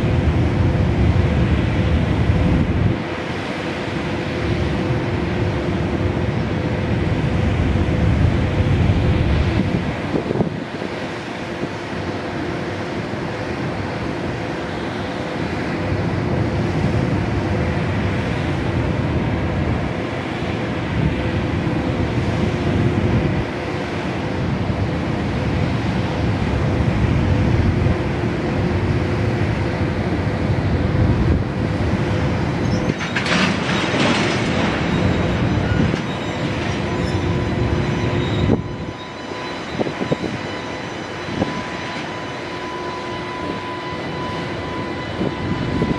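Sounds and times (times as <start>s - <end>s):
electric locomotive humming: 0.0s - 45.9s.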